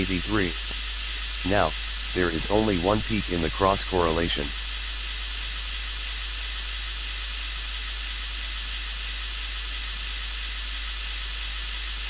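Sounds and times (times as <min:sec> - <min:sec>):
low hum: 0:00.0 - 0:12.0
white noise test signal hiss: 0:00.0 - 0:12.0.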